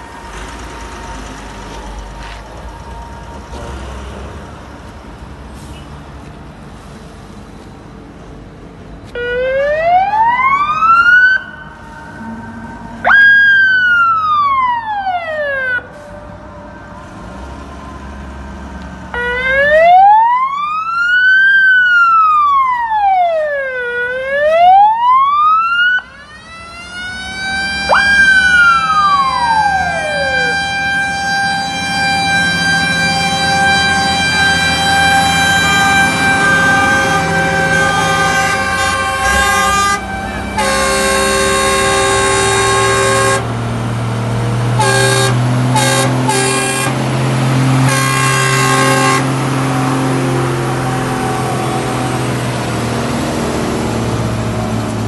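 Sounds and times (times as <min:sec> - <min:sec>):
fire engine siren wailing: 0:00.0 - 0:04.9, 0:09.1 - 0:55.0.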